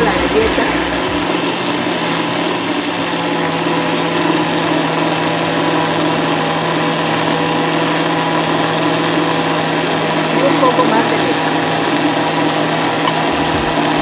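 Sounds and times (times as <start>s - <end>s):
blender motor running: 0.3s - 14.0s.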